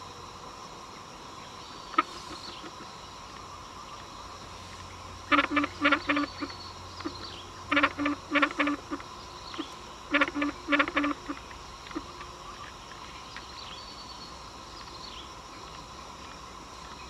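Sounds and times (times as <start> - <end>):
distant machinery drone: 0.0 - 15.2
frog croaking: 1.1 - 17.0.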